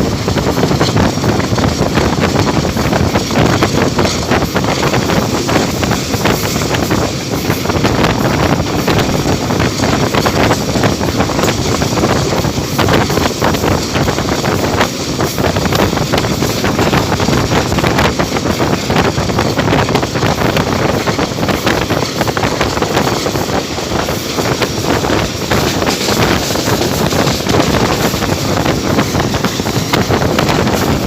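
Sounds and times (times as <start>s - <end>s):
train wheels rumbling and clattering: 0.0s - 31.0s
wind buffeting microphone: 0.0s - 31.0s.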